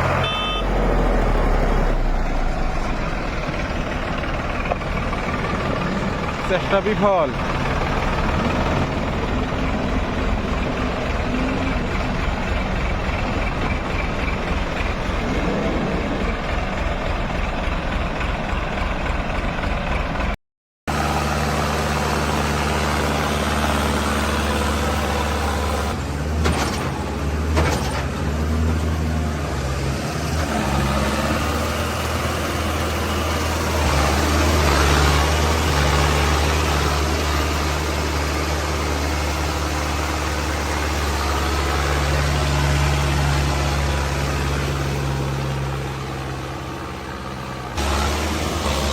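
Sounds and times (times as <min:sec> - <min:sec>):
engine low drone: 0:00.0 - 0:27.8, 0:28.4 - 0:48.9
tractor engines running: 0:00.0 - 0:48.9.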